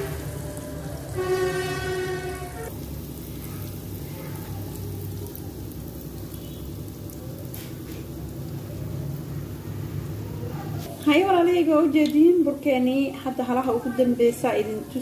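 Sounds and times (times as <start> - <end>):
dough sizzling in hot oil: 0.0 - 15.0.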